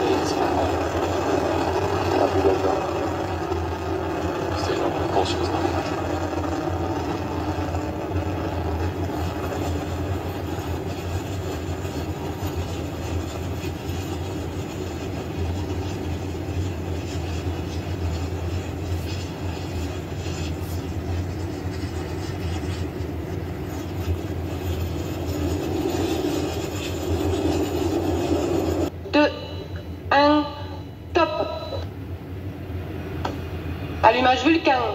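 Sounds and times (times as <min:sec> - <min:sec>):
rocket engine rumble: 0:00.0 - 0:29.0.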